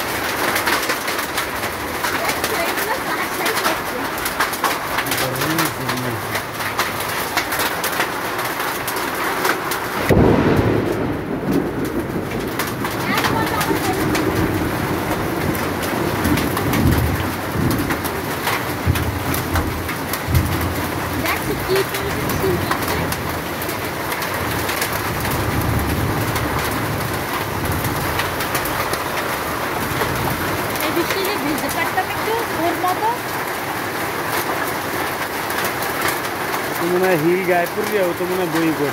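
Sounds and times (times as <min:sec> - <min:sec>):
hailstones pelting down: 0:00.0 - 0:38.9
steady rain: 0:00.0 - 0:38.9.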